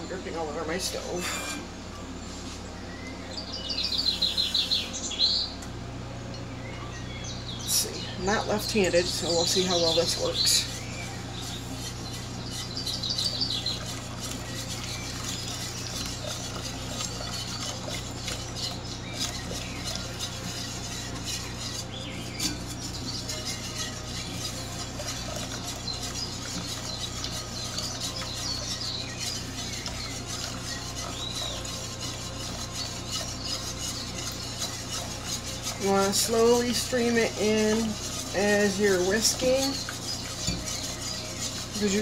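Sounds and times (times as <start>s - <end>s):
whisk scraping a saucepan: 7.7s - 42.0s.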